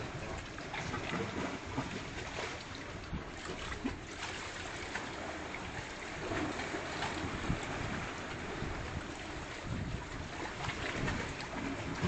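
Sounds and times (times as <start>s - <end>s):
small water splashes: 0.0s - 12.0s
small waves lapping on rocks: 0.0s - 12.0s.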